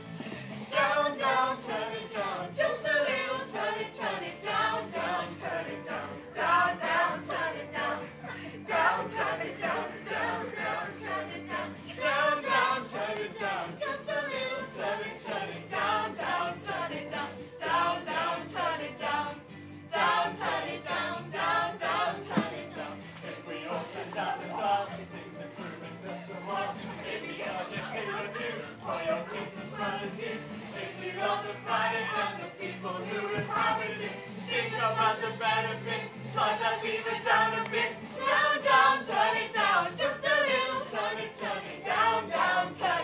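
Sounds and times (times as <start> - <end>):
group of voices singing: 0.0 - 43.0
quiet backing music: 0.0 - 43.0.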